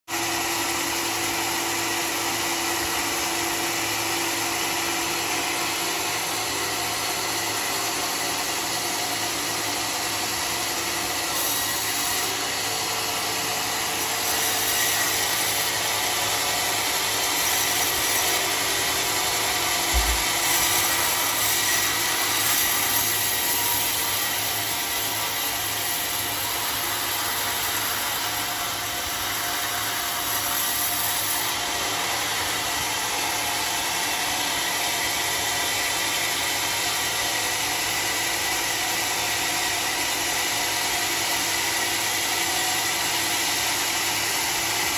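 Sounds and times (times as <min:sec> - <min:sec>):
band sawmill cutting log: 0:00.1 - 0:44.9.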